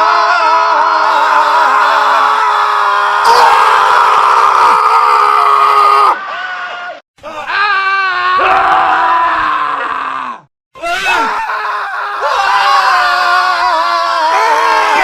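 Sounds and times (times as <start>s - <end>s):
men screaming: 0.0s - 15.0s.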